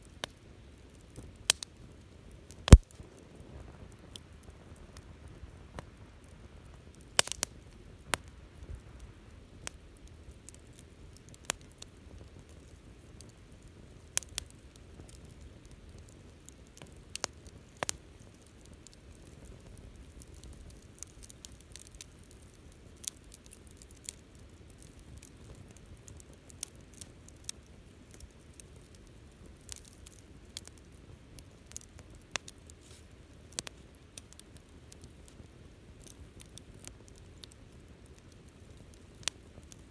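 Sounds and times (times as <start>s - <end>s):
campfire crackling: 0.0s - 39.9s
low rustle of burning: 0.0s - 39.9s
fire pops and snaps: 0.1s - 39.9s.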